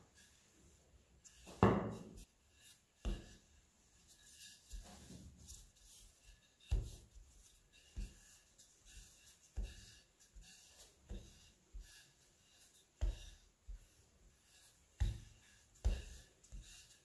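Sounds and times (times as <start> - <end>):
rolling pin rubbing on dough: 0.0 - 17.0.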